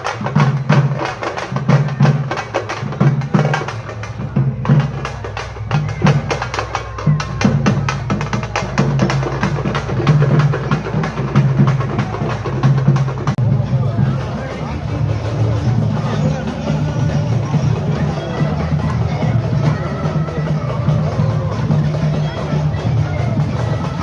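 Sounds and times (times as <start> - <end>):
fast drumming: 0.0 - 24.0.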